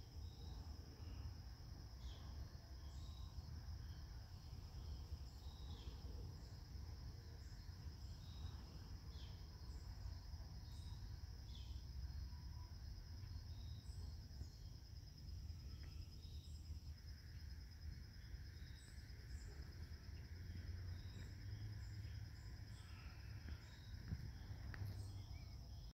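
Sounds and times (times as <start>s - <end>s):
high-pitched insect trill: 0.0s - 25.9s
lower steady buzz: 0.0s - 25.9s.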